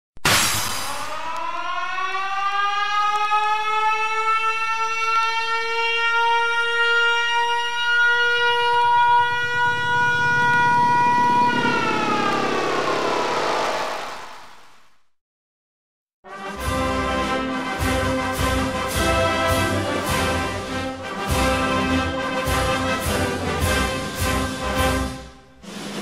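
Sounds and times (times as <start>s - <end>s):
fire siren wailing: 0.9s - 14.2s, 16.3s - 25.1s.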